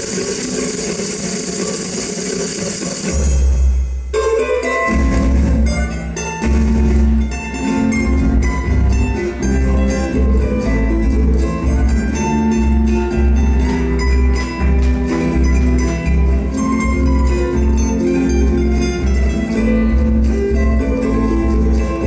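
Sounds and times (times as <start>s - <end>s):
plucked strings melody: 3.1s - 22.0s.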